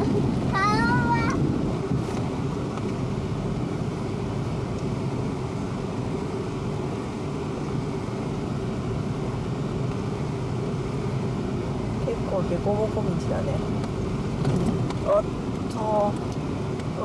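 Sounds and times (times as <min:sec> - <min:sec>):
vehicle engine and tyre drone: 0:00.0 - 0:17.0.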